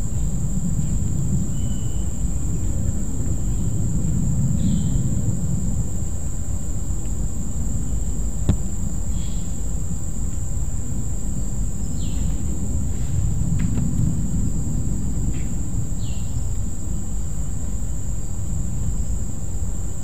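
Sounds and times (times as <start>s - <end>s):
low rumble: 0.0s - 9.2s, 10.2s - 19.0s
high-pitched insect drone: 0.0s - 13.3s, 14.2s - 20.0s.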